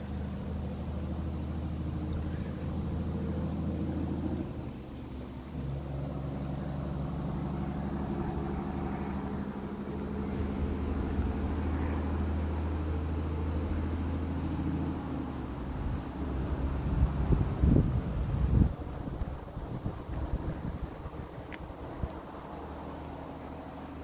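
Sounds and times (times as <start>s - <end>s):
truck diesel engine idling: 0.0s - 24.0s.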